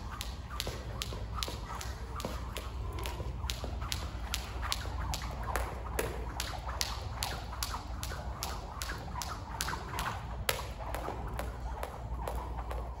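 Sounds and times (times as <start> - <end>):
jump rope slapping a hard floor: 0.0 - 13.0.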